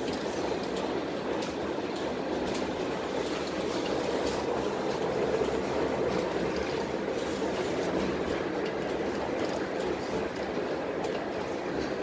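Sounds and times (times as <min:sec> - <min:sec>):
tram wheels rumbling on rail: 0:00.0 - 0:12.0.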